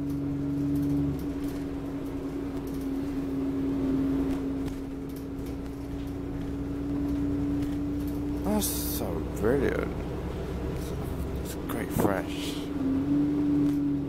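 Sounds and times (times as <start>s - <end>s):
bus engine and road noise: 0.0s - 14.0s
low drone: 0.0s - 14.0s.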